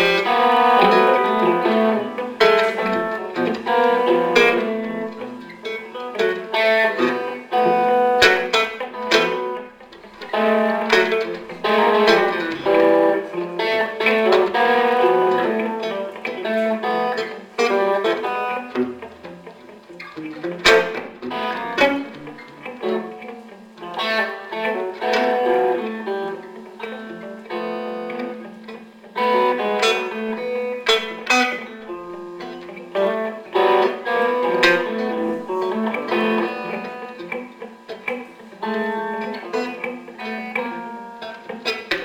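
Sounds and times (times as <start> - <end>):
plucked electric guitars: 0.0 - 42.0.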